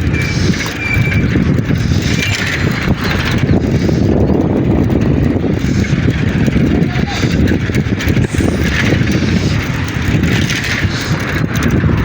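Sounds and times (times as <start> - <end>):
faint road and bike noise: 0.0 - 12.0
wind buffeting microphone: 0.0 - 12.0.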